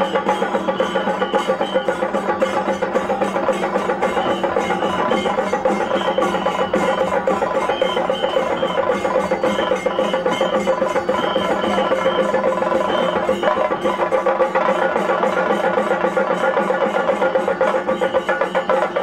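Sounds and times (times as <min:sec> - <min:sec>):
music with fast percussion beat: 0:00.0 - 0:19.0.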